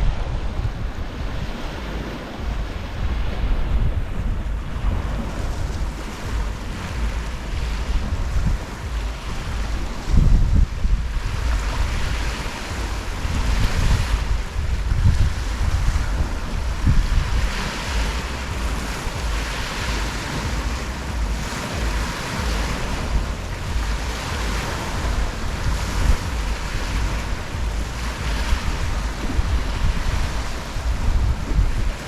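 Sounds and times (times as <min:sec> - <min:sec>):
waves lapping on shore: 0:00.0 - 0:32.0
wind rumbling on microphone: 0:00.0 - 0:32.0.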